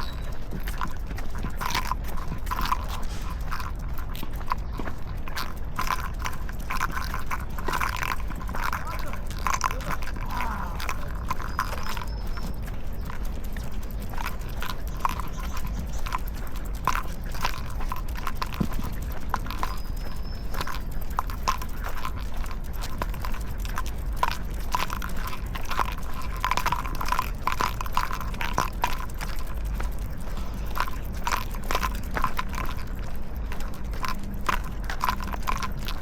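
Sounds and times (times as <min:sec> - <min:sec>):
footsteps on pavement: 0:00.0 - 0:36.0
low street noise: 0:00.0 - 0:36.0.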